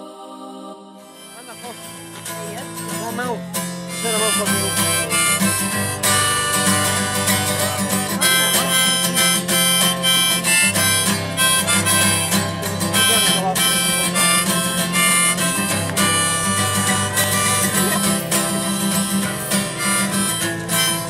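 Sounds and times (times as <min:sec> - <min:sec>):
harmonica playing sustained chords: 0:00.0 - 0:21.0
strummed acoustic guitar: 0:01.0 - 0:21.0.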